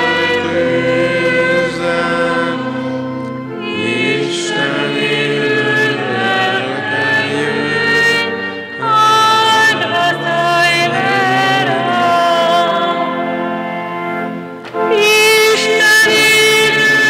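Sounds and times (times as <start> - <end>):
congregation singing a hymn: 0.0 - 17.0
pipe organ: 0.0 - 17.0.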